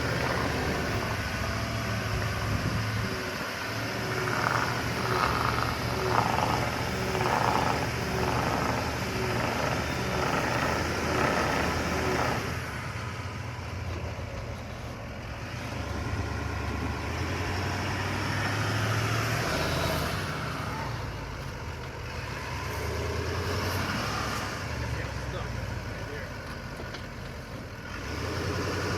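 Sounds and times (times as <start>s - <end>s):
truck engine running: 0.0s - 28.9s.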